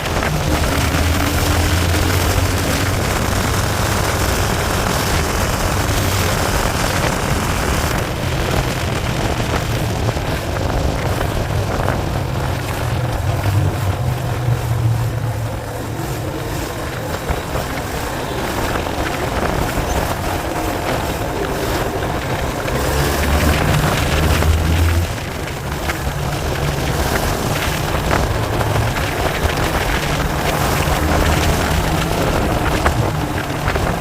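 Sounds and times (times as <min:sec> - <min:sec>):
motorcycle engine drone: 0:00.0 - 0:34.0
wind on microphone: 0:00.0 - 0:34.0.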